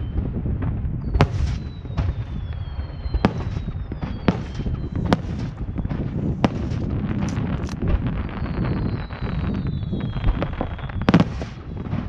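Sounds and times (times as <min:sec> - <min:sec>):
echoing booms: 0:00.0 - 0:12.0
firework shells exploding: 0:00.0 - 0:12.0
firework whistling: 0:00.0 - 0:12.0.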